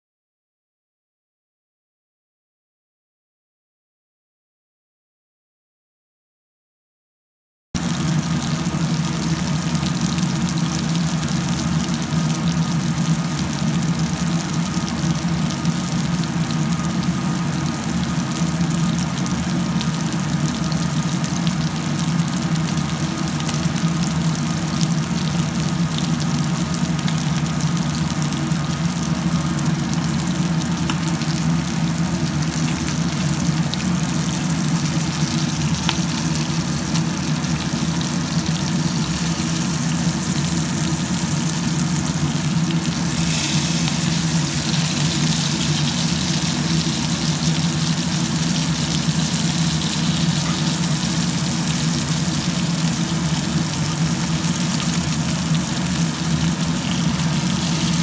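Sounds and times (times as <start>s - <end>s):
fish frying in a pan: 7.8s - 58.0s
low hum: 7.8s - 58.0s.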